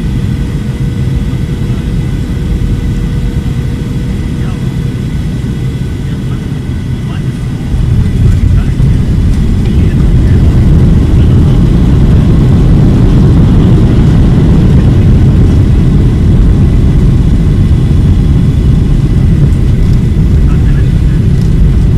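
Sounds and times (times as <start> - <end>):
airliner low rumble: 0.0 - 21.9.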